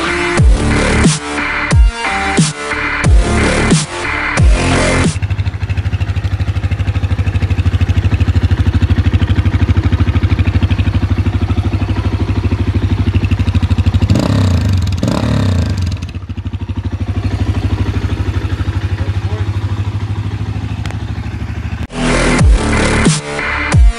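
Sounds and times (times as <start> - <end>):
engine revving: 0.0 - 23.9
quad engine idling: 3.1 - 23.6.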